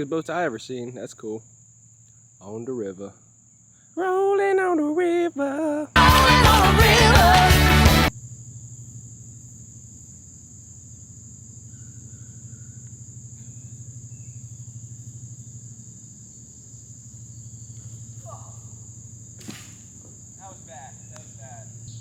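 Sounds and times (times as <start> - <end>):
crickets trilling: 0.0 - 5.9, 8.1 - 22.0.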